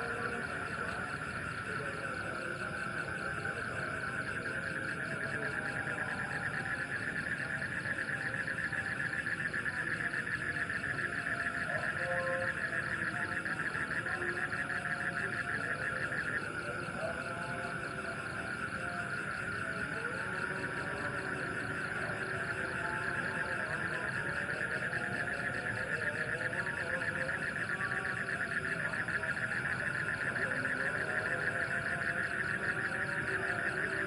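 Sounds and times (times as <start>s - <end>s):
frogs and insects trilling: 0.0s - 34.0s.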